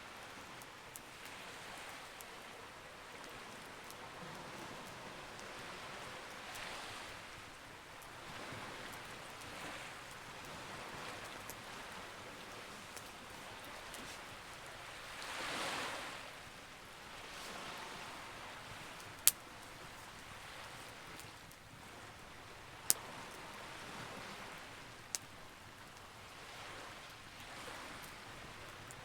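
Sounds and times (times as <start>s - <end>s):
campfire crackling: 0.1s - 29.0s
sea waves washing in: 1.0s - 29.0s.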